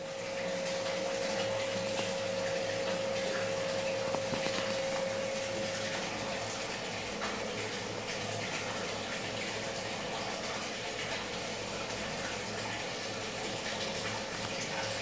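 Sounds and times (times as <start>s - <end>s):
pump hum: 0.0s - 15.0s
water splashing and trickling: 0.0s - 15.0s.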